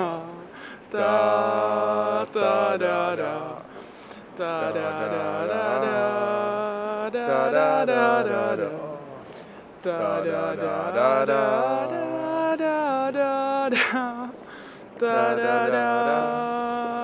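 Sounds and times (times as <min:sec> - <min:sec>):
chant-like choral singing: 0:00.0 - 0:13.5, 0:15.0 - 0:17.0.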